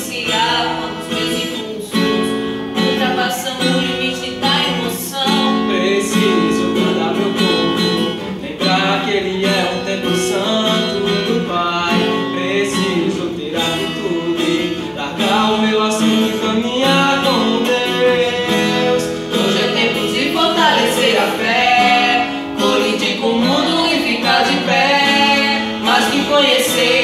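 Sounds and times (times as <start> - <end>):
man and woman singing: 0.0 - 27.0
strummed acoustic guitar: 0.0 - 27.0.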